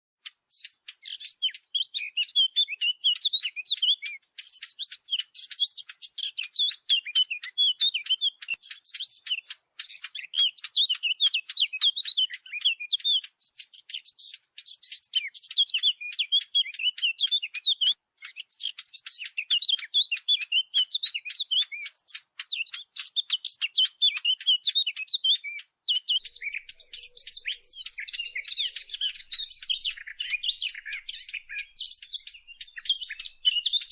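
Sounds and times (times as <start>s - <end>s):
small bird warbling: 0.2s - 33.9s.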